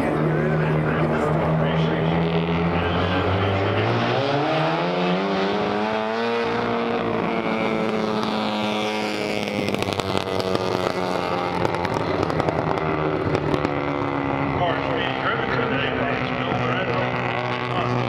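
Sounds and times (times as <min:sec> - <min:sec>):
exhaust crackling: 0:00.0 - 0:18.0
race car engine accelerating: 0:00.0 - 0:18.0.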